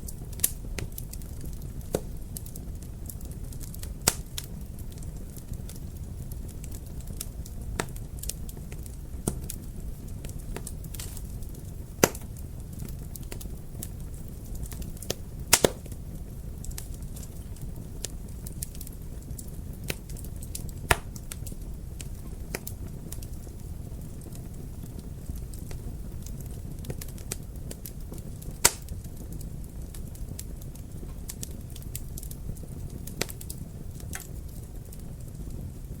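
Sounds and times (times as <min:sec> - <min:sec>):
fire pops and snaps: 0:00.0 - 0:36.0
wood fire crackling: 0:00.0 - 0:36.0.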